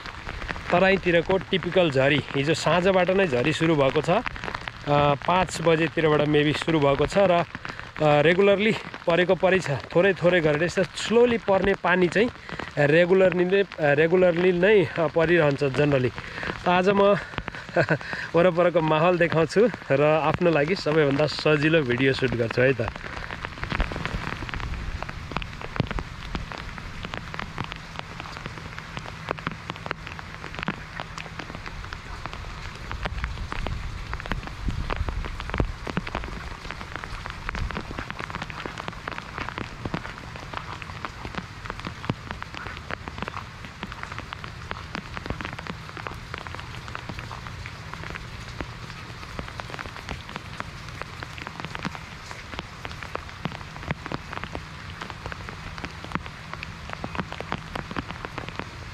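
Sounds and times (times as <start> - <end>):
rain hiss: 0.0 - 58.9
raindrop taps: 0.0 - 58.9.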